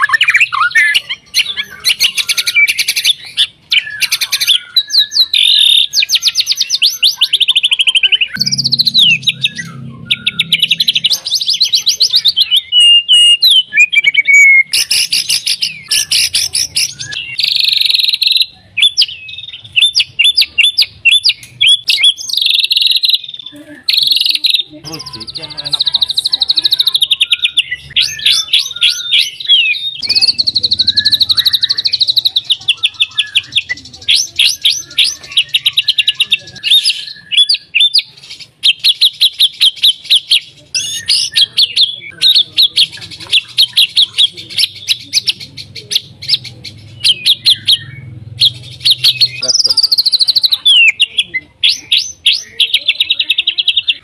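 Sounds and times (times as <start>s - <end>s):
songbird singing trills and whistles: 0.0s - 54.0s.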